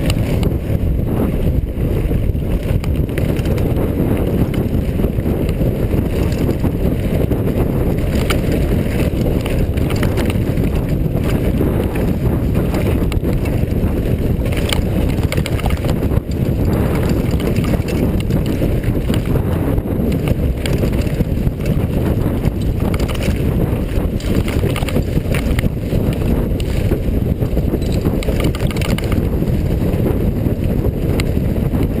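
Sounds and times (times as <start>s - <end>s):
bike rattles and clicks: 0.0s - 32.0s
wind buffeting microphone: 0.0s - 32.0s.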